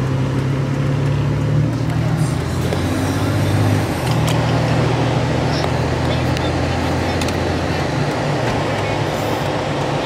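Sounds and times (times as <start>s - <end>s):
car engine and tyre drone: 0.0s - 10.0s.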